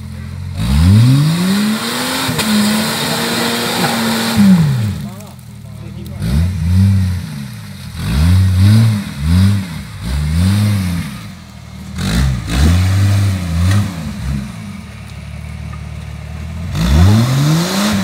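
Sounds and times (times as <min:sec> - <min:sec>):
engine revving in bursts: 0:00.5 - 0:05.2, 0:06.1 - 0:14.8, 0:16.7 - 0:18.0.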